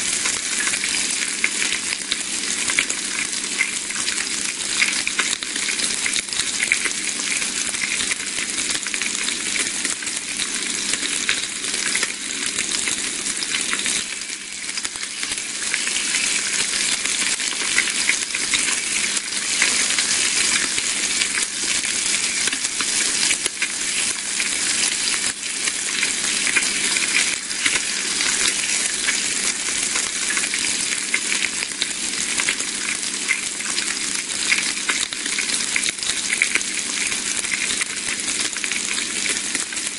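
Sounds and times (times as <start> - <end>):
bacon sizzling and crackling: 0.0 - 39.9.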